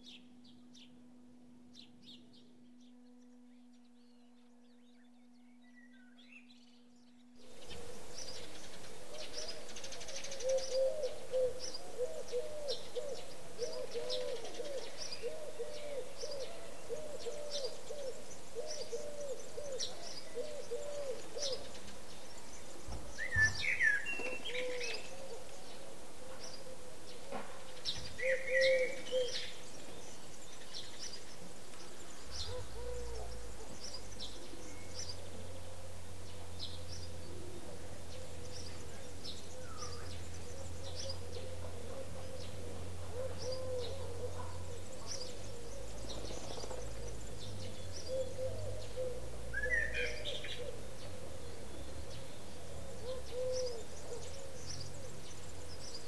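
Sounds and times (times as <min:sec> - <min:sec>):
low hooting bird notes: 0:00.0 - 0:56.0.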